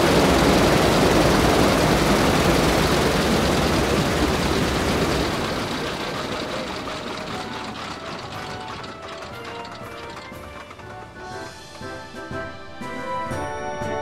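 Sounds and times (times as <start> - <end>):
propeller aircraft engines rumbling: 0.0 - 12.4.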